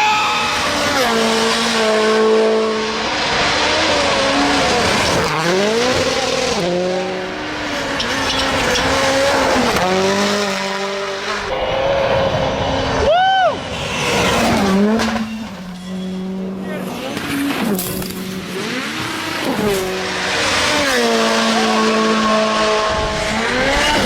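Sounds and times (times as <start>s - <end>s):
rally car engine revving: 0.0s - 24.0s
tyre and road noise: 0.0s - 24.0s.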